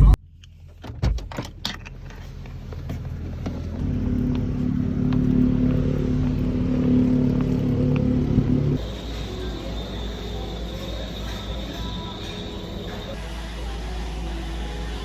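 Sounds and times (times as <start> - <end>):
vehicle engine humming: 1.5 - 15.0.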